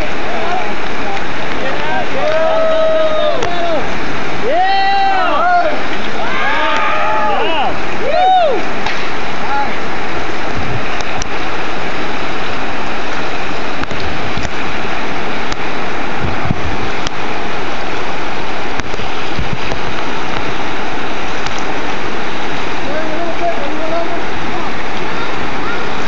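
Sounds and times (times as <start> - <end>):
river rapid rushing: 0.0 - 26.0.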